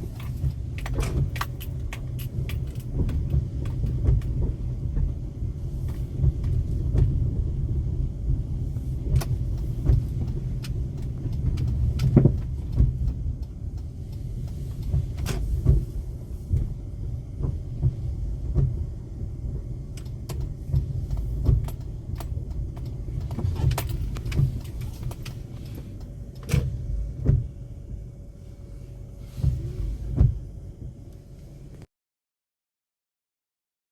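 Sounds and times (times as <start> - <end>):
rain taps and clicks: 0.0 - 28.1
road and engine rumble: 0.0 - 31.9.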